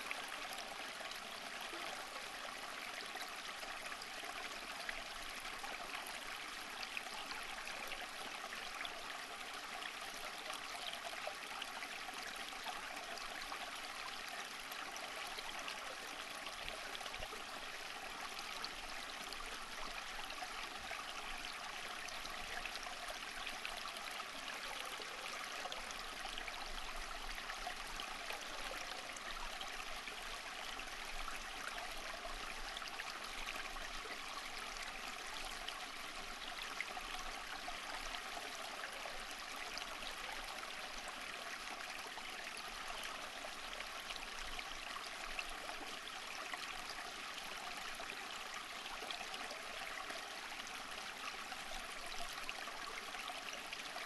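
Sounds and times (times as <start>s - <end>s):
stream water bubbling: 0.0s - 54.0s.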